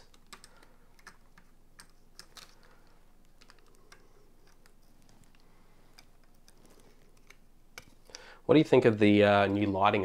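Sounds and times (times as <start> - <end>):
small parts clicking and tapping: 0.0 - 9.7.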